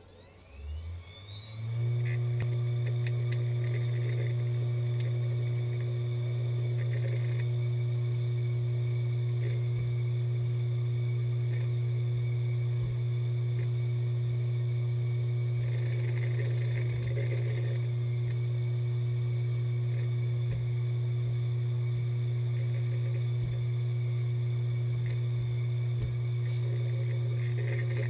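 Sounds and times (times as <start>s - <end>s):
hard drive humming: 0.0s - 28.0s
hard drive scratchy ticks: 1.8s - 28.0s.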